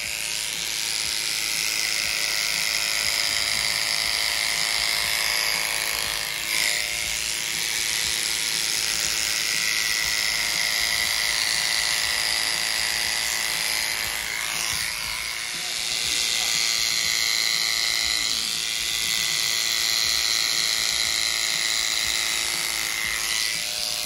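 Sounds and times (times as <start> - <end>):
electric clippers buzzing: 0.0 - 24.0.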